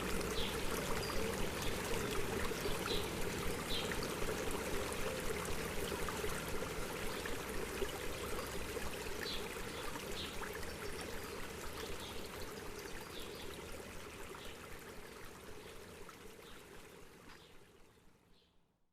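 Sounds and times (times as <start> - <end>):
stream running: 0.0 - 18.4.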